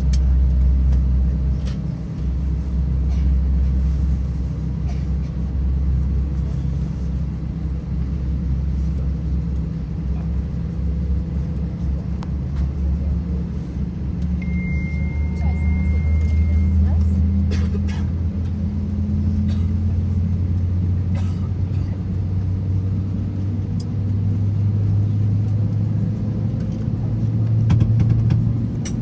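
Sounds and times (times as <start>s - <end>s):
airplane cabin low rumble: 0.0s - 29.0s.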